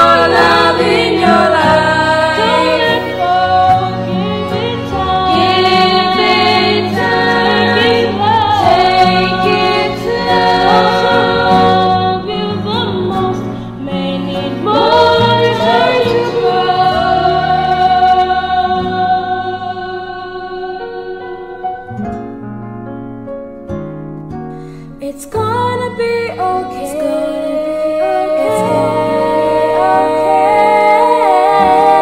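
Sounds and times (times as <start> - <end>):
woman singing in layered harmony: 0.0 - 21.9, 25.0 - 32.0.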